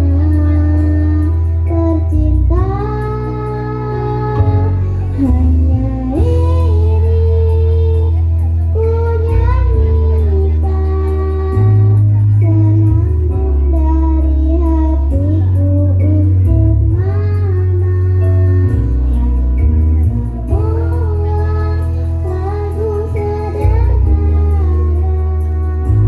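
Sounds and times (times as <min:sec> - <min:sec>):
deep bass: 0:00.0 - 0:26.0
guitar: 0:00.0 - 0:26.0.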